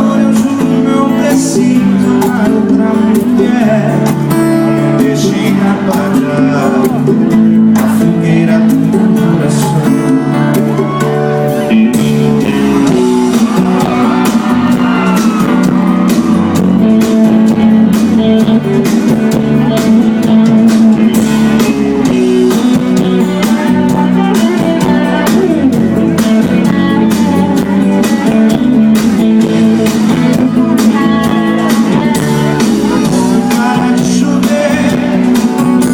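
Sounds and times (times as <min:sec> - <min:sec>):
drum kit steady beat: 0:00.0 - 0:35.9
guitars playing melody: 0:00.0 - 0:35.9.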